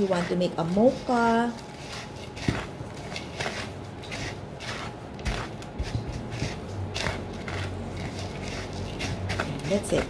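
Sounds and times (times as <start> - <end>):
breadcrumbs rustling in a bowl: 0.0 - 10.0.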